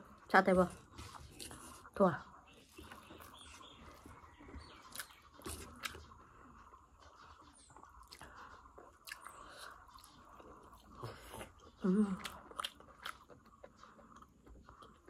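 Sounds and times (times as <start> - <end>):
faint close-up chewing: 0.0 - 15.0.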